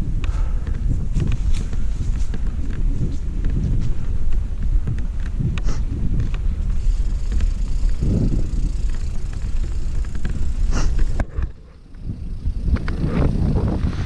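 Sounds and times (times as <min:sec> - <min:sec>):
bike knocks and rattles: 0:00.0 - 0:14.0
bike tyres rumbling on dirt: 0:00.0 - 0:14.0
wind on microphone: 0:00.0 - 0:14.0.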